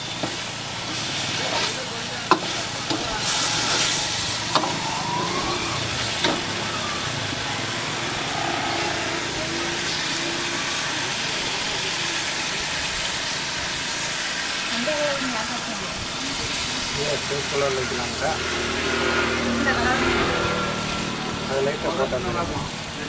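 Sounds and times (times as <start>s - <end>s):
chicken sizzling in wok: 0.0s - 23.0s.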